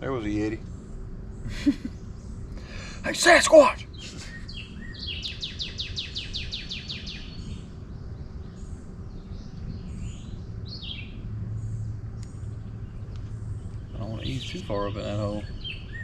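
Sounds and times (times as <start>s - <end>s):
birds singing: 0.0s - 16.0s
low hum: 0.0s - 16.0s
low outdoor rumble: 0.0s - 16.0s.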